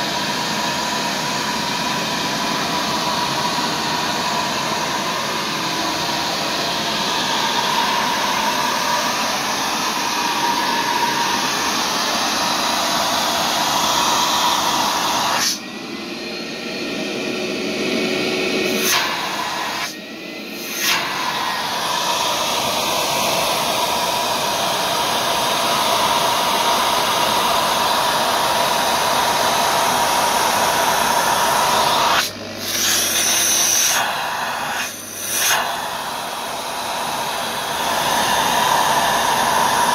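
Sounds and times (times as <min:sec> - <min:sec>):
wash-vacuum running: 0:00.0 - 0:39.9.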